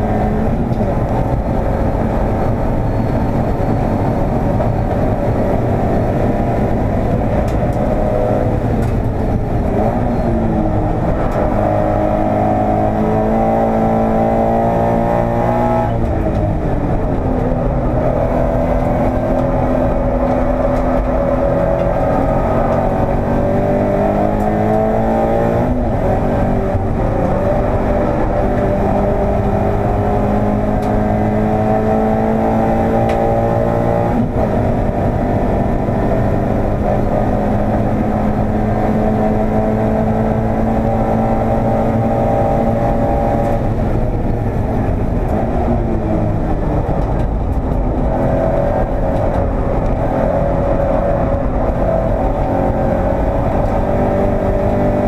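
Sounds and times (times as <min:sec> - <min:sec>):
car engine accelerating hard: 0:00.0 - 0:55.0
road and wind noise: 0:00.0 - 0:55.0.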